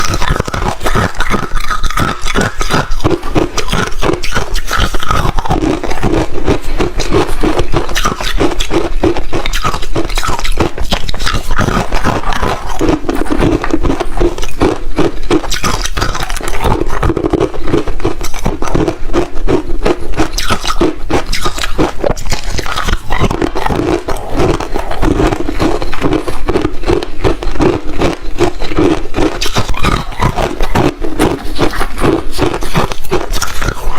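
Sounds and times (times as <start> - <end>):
ice crunching while chewed: 0.0 - 33.9.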